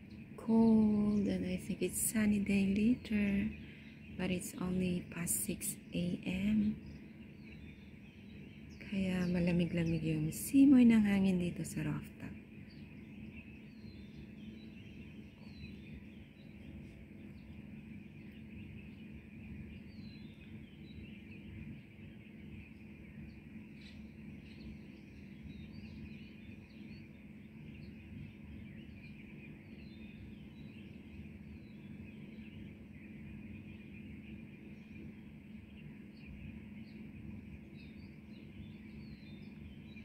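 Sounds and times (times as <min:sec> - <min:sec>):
birds chirping: 0:00.0 - 0:40.0
low outdoor rumble: 0:00.0 - 0:40.0.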